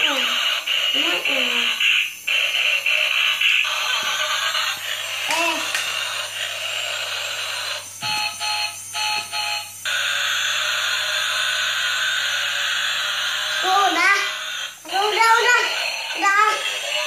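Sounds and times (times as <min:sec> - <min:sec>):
toy speaker hissing: 0:00.0 - 0:17.0.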